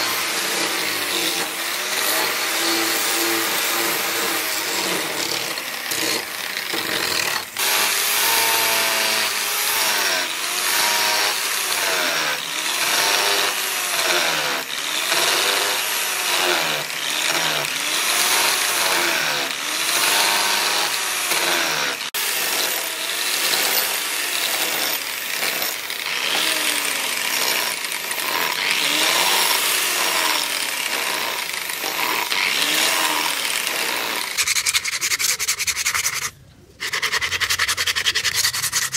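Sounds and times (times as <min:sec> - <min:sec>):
electric power tool motor: 0:00.0 - 0:36.3.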